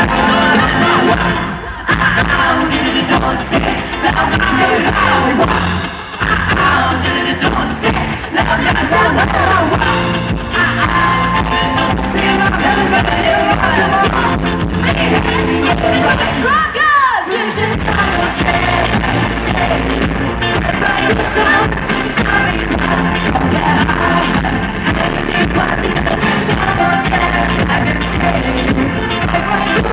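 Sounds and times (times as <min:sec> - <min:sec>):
live pop music over pa: 0:00.0 - 0:29.9
person singing into microphone: 0:00.0 - 0:29.9.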